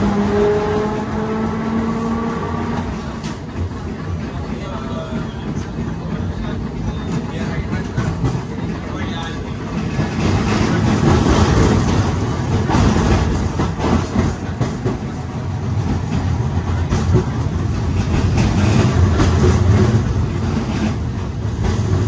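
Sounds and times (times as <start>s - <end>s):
steel wheels rumbling on rails: 0.0s - 22.0s
knocks and rattles: 3.1s - 22.0s.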